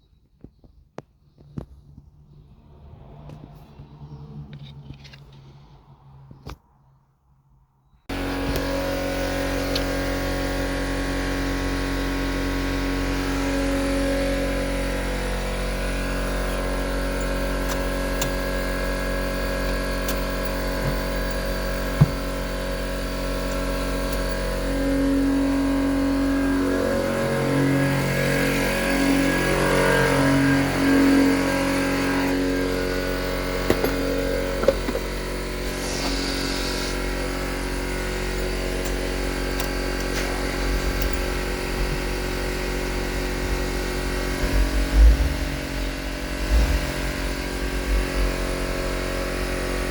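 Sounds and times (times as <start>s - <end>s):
car engine running: 8.1s - 49.9s.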